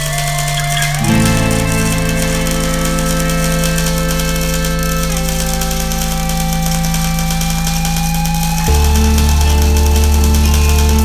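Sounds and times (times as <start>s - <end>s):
sustained tone background music: 0.0s - 11.0s.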